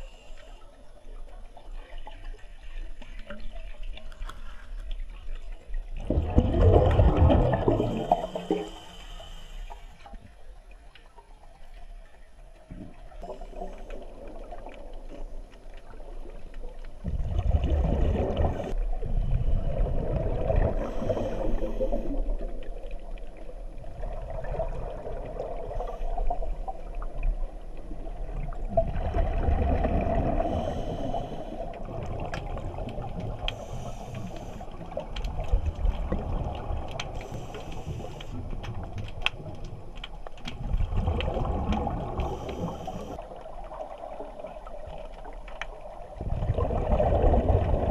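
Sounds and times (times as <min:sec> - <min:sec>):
underwater bubbling rumble: 0:00.0 - 0:47.9.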